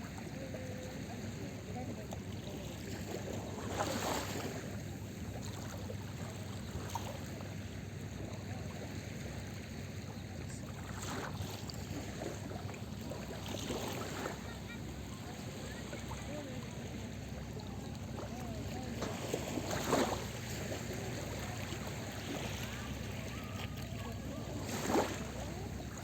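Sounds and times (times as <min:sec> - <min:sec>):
small waves washing on beach: 0:00.0 - 0:26.0.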